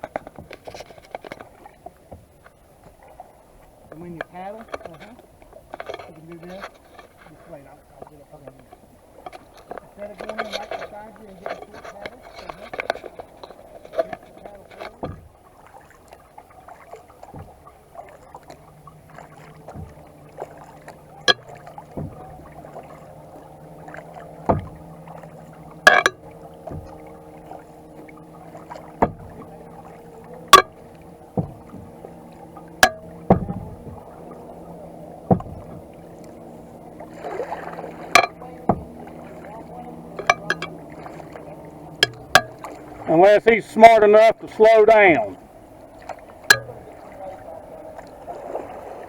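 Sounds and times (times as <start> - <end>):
motorboat engine hum: 0.0 - 49.0
paddle knocking kayak: 0.0 - 49.0.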